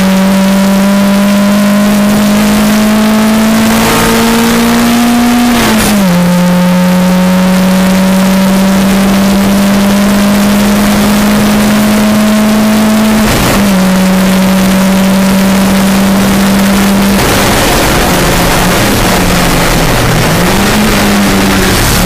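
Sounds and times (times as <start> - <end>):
car engine at full throttle: 0.0 - 22.0
wind and road noise: 0.0 - 22.0.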